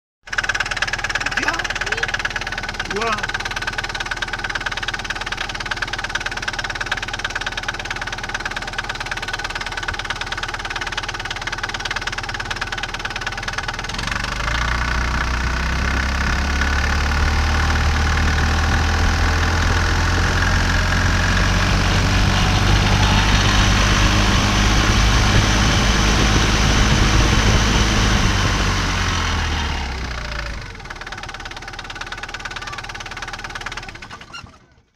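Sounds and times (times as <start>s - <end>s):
small car engine idling and revving: 0.2s - 34.9s.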